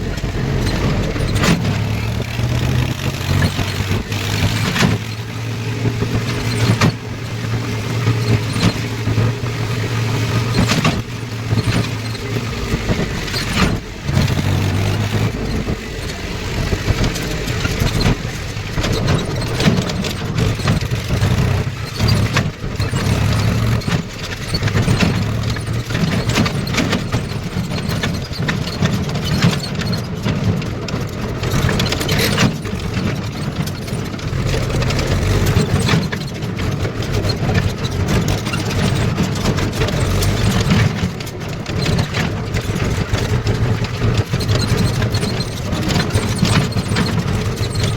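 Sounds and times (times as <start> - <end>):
diesel engine running: 0.0 - 47.9
knocks and clatter: 0.0 - 47.9.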